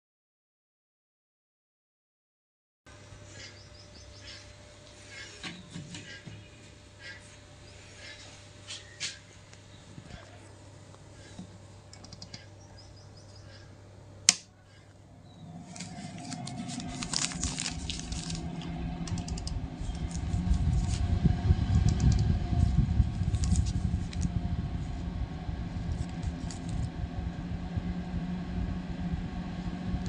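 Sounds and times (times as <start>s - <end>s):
cooling fan whirring: 2.9s - 30.0s.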